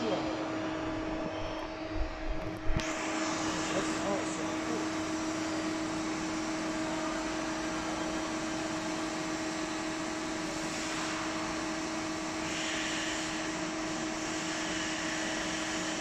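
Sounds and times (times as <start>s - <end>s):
machine humming with held tone: 0.0s - 16.0s.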